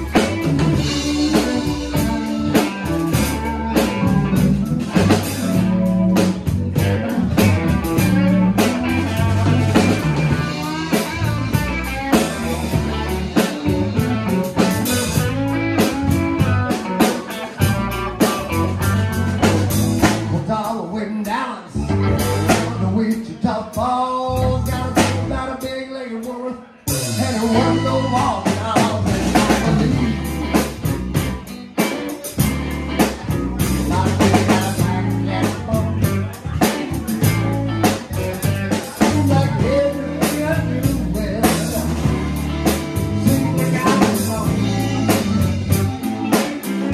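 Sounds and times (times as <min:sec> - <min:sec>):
live blues band playing: 0:00.0 - 0:46.9.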